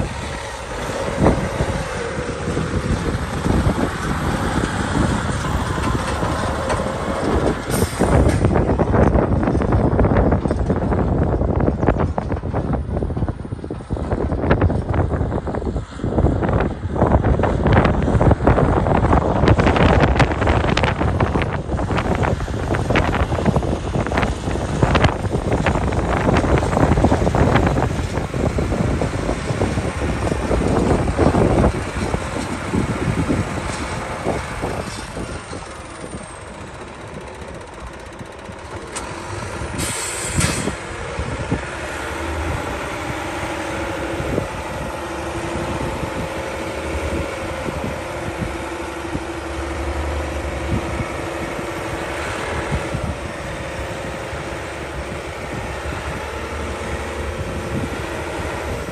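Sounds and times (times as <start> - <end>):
diesel truck engine running: 0.0 - 58.9
rough gusty noise: 0.0 - 58.9.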